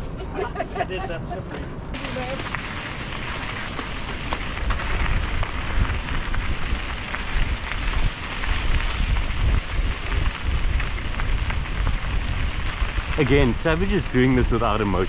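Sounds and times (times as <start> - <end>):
wind buffeting microphone: 1.4 - 15.0
bike rattling: 1.9 - 15.0
bike tyres crunching on gravel: 1.9 - 15.0.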